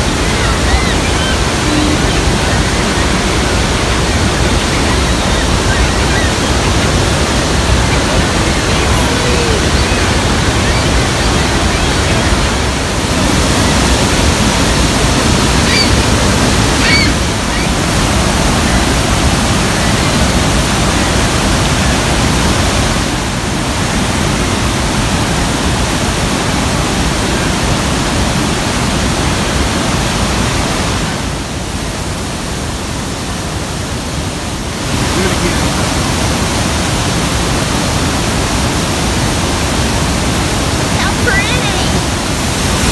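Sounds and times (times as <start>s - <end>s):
waterfall crashing onto rocks: 0.0s - 42.9s.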